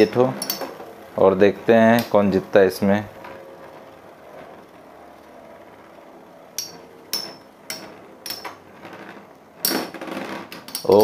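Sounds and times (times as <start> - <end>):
spinning tops humming: 0.0 - 11.0.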